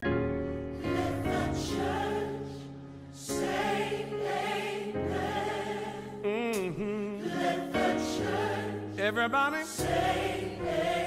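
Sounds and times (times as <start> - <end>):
gospel choir singing: 0.7 - 11.0.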